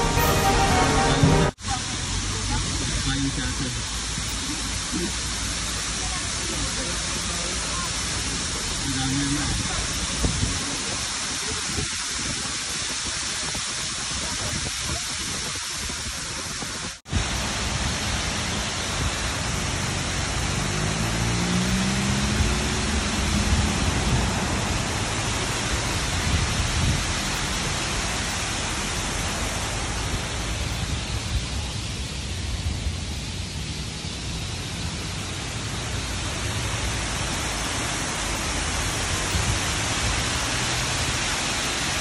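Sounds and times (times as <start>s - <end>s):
waterfall rushing water: 0.0s - 42.0s.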